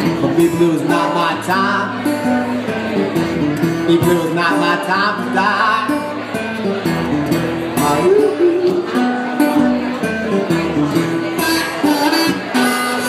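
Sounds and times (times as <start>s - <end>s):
blues guitar playing: 0.0s - 13.0s.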